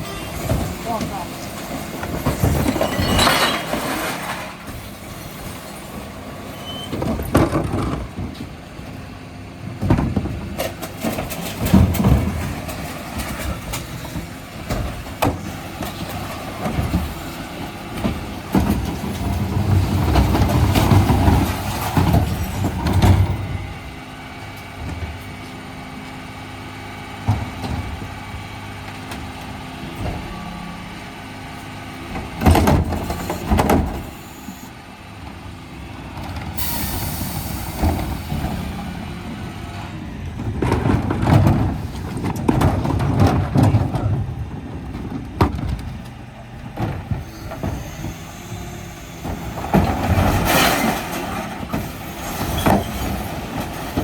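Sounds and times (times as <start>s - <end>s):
refuse lorry engine running: 0.0s - 54.0s.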